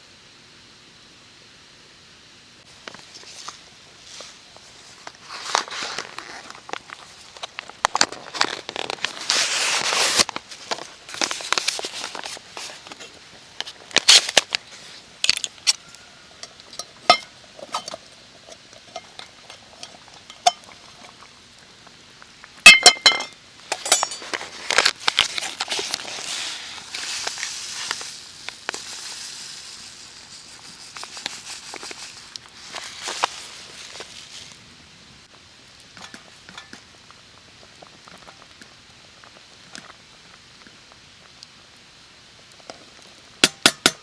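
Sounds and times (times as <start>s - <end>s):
light hiss: 0.0s - 43.7s.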